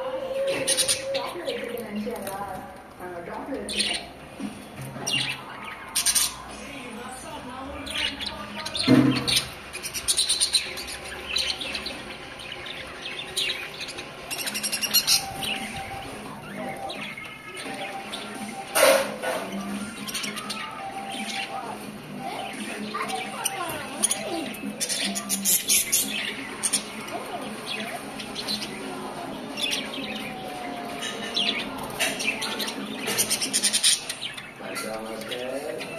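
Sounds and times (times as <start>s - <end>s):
budgerigars chirping: 0.0s - 35.9s.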